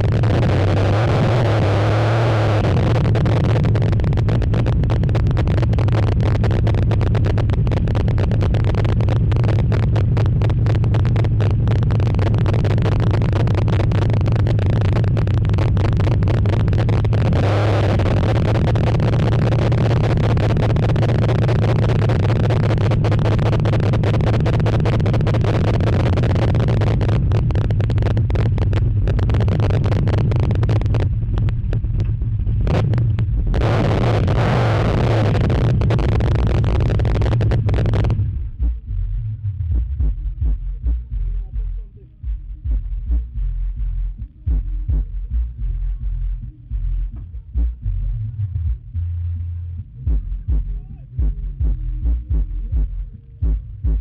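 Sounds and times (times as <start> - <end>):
pickup engine running: 0.0 - 54.0.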